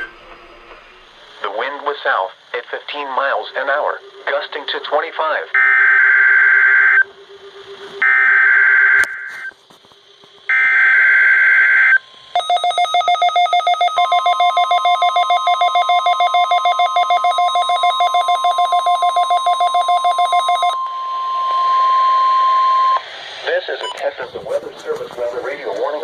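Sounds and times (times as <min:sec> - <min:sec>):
steady warning alarm tone: 0:00.0 - 0:01.3, 0:03.6 - 0:26.0
rapid pulsing alarm: 0:00.0 - 0:01.4, 0:03.8 - 0:26.0.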